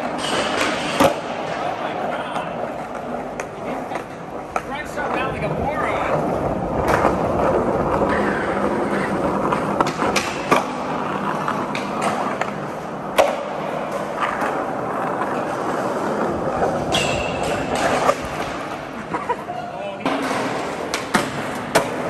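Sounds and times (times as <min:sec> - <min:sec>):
skateboard wheels rolling on concrete: 0:00.0 - 0:22.0.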